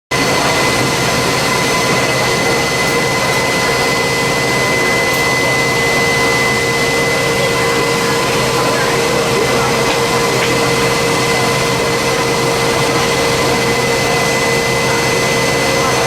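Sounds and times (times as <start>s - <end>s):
jet engine whine and rush: 0.1s - 16.0s.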